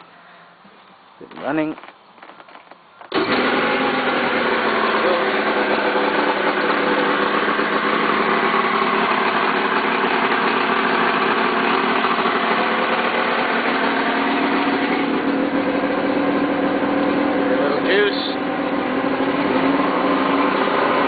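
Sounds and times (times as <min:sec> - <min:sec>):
outboard engine idling: 0:03.1 - 0:21.0.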